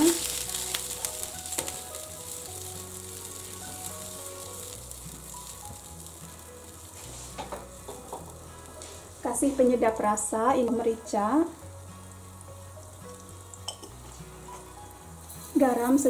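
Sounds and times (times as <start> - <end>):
broth sizzling in a frying pan: 0.0 - 16.0
soft background music: 0.0 - 16.0.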